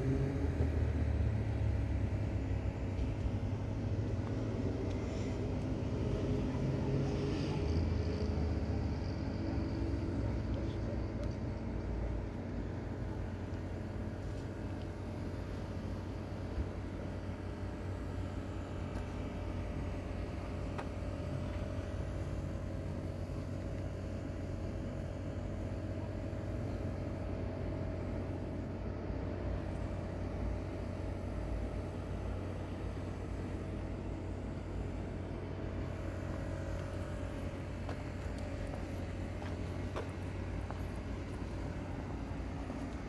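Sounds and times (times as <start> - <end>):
faint steady whine: 0.0 - 43.0
traffic rumble: 0.0 - 43.0.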